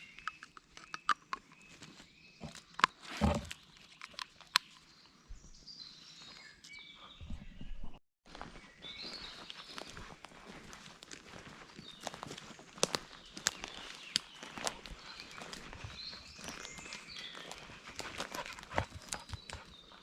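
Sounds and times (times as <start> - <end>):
twigs cracking underfoot: 0.0 - 5.0, 8.3 - 19.7
woodland birdsong: 0.0 - 20.0.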